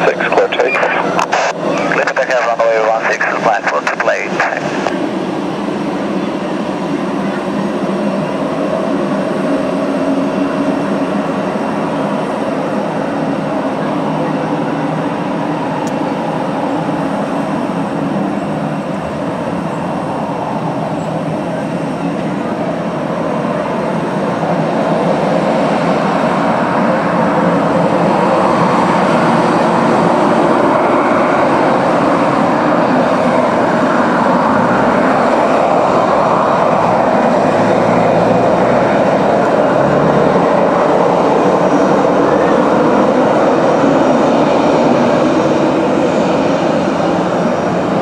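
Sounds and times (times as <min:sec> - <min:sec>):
jet engines at take-off: 0:00.0 - 0:48.0.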